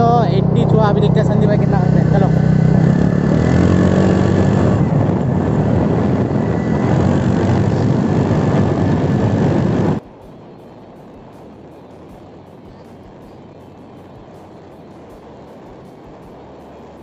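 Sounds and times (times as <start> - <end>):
motorbike engine at speed: 0.0 - 17.0
wind on microphone: 0.0 - 17.0.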